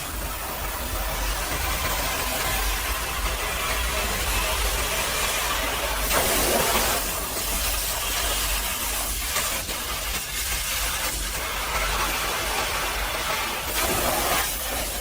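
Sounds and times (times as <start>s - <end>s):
pressure washer water jet hissing: 0.0s - 15.0s.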